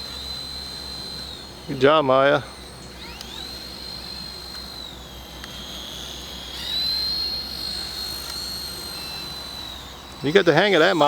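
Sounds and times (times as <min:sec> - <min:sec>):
toy helicopter rotor whining: 0:00.0 - 0:11.0.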